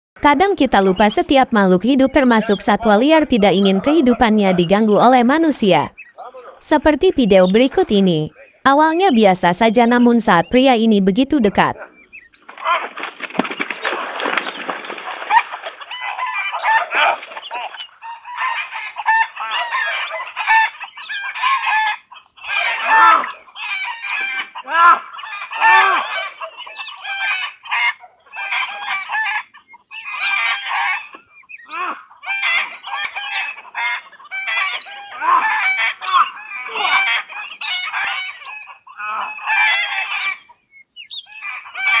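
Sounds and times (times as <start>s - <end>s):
fowl clucking and squawking: 0.2s - 42.0s.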